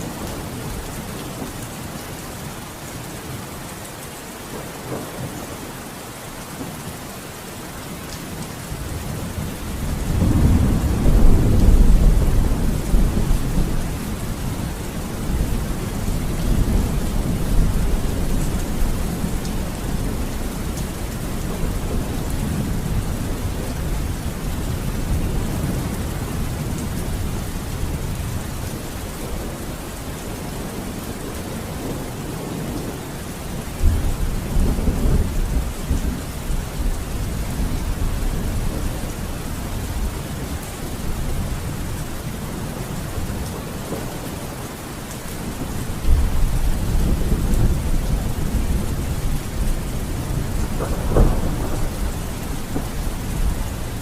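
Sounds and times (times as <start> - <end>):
steady rain: 0.0 - 54.0
low rolling thunder: 8.6 - 44.7, 45.3 - 54.0.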